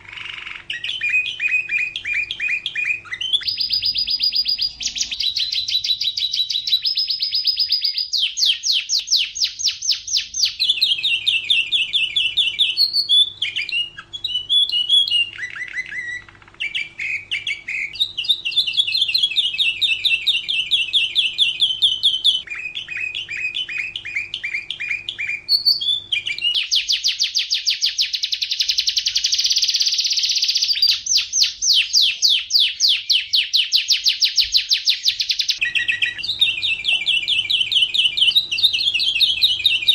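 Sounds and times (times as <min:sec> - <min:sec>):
canary singing fast trills: 0:00.0 - 0:39.9.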